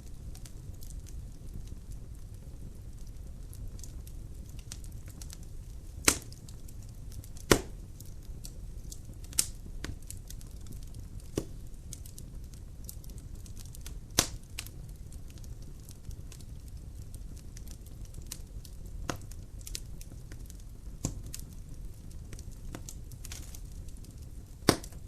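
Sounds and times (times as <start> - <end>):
logs crackling in fireplace: 0.0 - 25.0
low fire rumble: 0.0 - 25.0
sharp pops of burning wood: 0.0 - 25.0.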